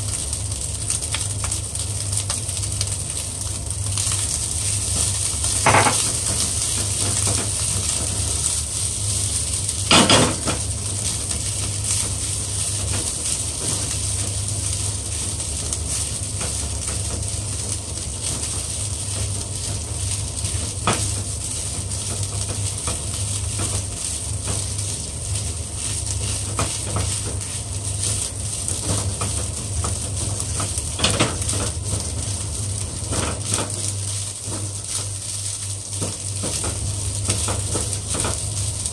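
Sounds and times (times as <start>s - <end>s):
rice sizzling in a pan: 0.0s - 38.9s.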